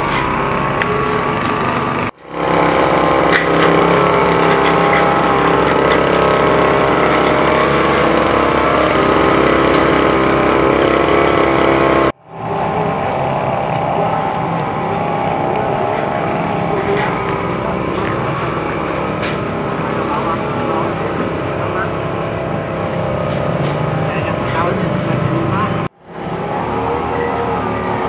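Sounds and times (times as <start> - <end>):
brush cutter engine running: 0.0 - 25.8.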